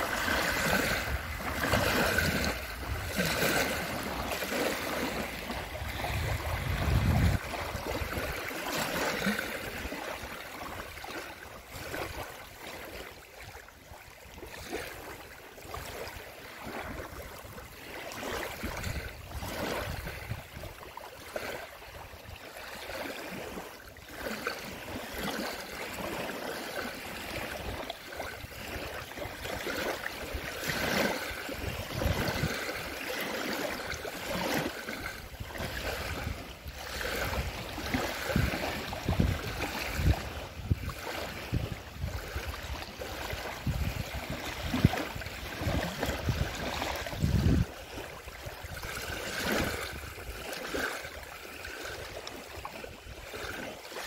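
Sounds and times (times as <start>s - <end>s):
lake waves lapping on a ramp: 0.0s - 54.0s.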